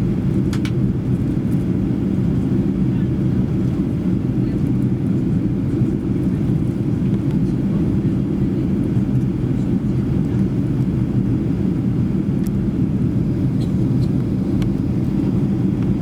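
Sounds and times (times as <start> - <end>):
aircraft engines in cabin: 0.0 - 16.0.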